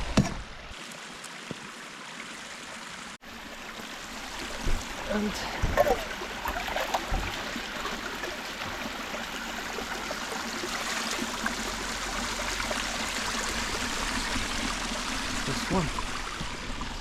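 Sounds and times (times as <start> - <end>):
stream flowing: 0.0 - 17.0.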